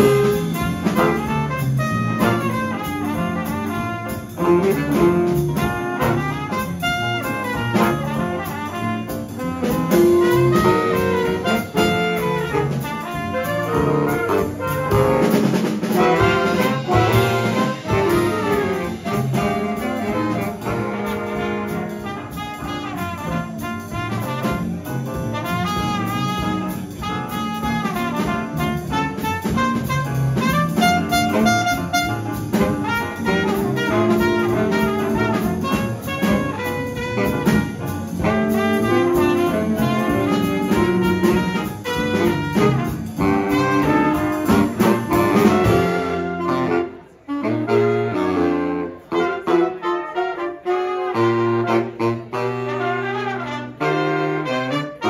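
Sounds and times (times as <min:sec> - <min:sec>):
jazz big band playing blues: 0:00.0 - 0:55.0.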